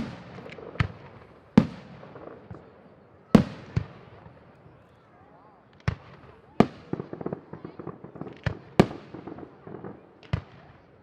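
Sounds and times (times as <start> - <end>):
fireworks bangs: 0.0 - 4.4, 5.8 - 10.9
faint fireworks pops: 0.0 - 4.9, 5.7 - 11.0.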